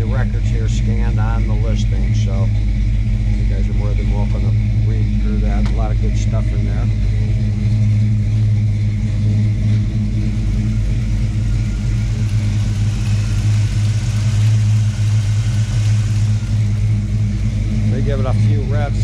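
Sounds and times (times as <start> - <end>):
vee eight engine idling: 0.0 - 19.0.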